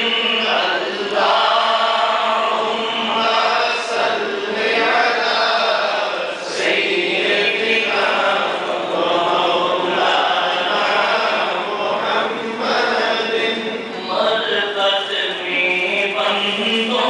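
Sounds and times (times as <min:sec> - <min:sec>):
man chanting through microphone: 0:00.0 - 0:17.0.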